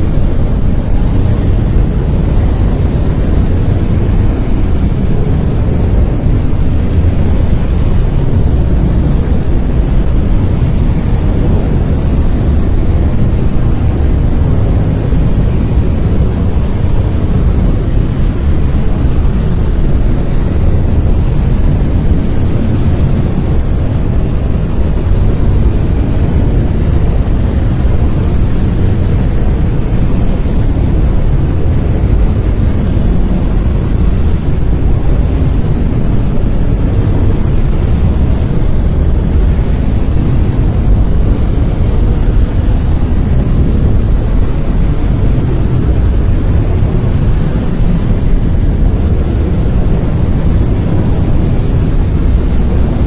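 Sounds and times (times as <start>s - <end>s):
brown noise rumbling hiss: 0.0s - 53.0s.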